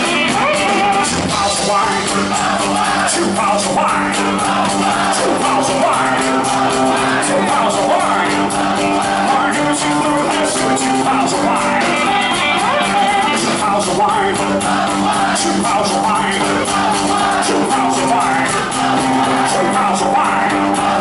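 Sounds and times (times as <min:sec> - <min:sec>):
drums keeping a beat: 0:00.0 - 0:21.0
electric guitar: 0:00.0 - 0:21.0
man singing: 0:00.0 - 0:21.0.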